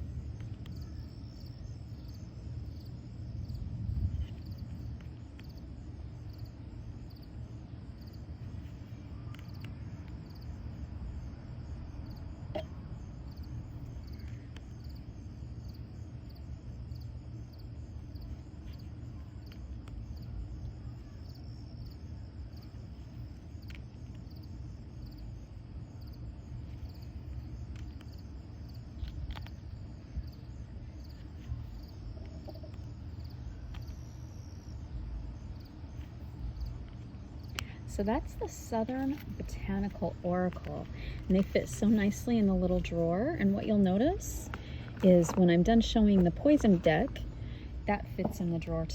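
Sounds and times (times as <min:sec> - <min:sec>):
low background hum: 0:00.0 - 0:48.9.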